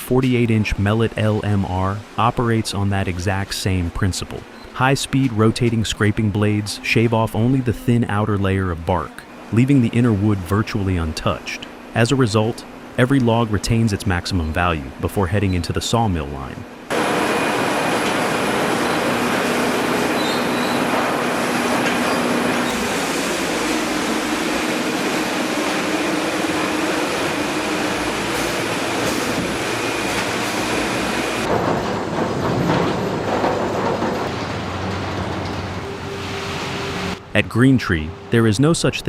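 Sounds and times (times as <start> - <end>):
debarker machine running: 0.0 - 39.0
faint machine whines: 4.1 - 39.0.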